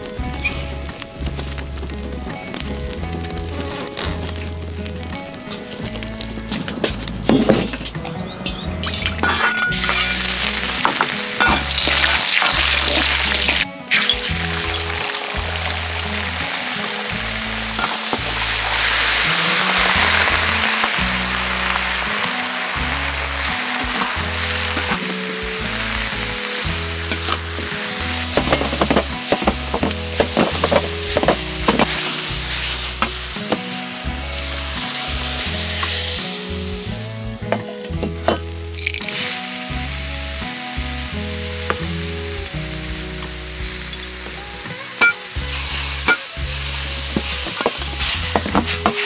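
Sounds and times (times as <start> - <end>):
background music with bass: 0.0 - 49.0
food sizzling in a wok: 0.0 - 49.0.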